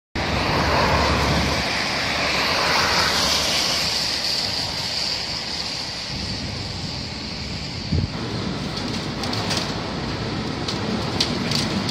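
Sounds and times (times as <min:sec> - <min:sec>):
wind blowing hard: 0:00.2 - 0:11.9.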